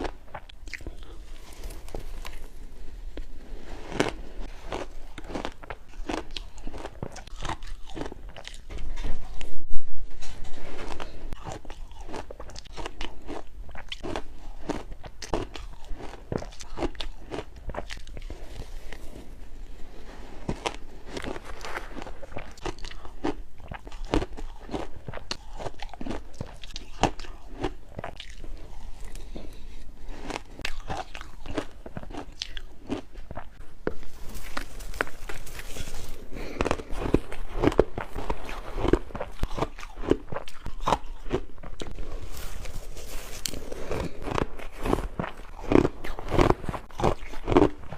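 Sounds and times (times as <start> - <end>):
person chewing shaved ice: 0.0 - 9.5, 10.4 - 47.9.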